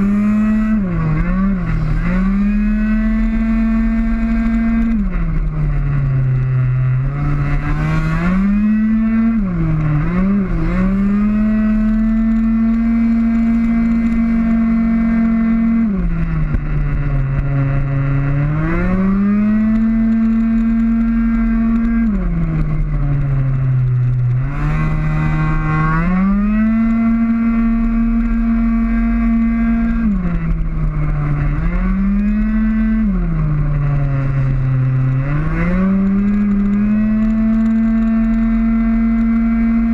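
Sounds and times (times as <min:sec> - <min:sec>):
two-stroke scooter engine revving: 0:00.0 - 0:39.9.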